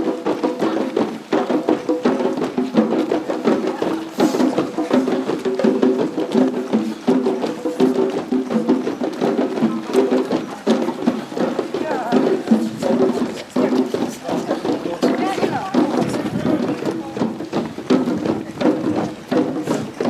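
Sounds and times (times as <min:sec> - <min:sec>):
group drumming fast rhythm: 0:00.0 - 0:20.0.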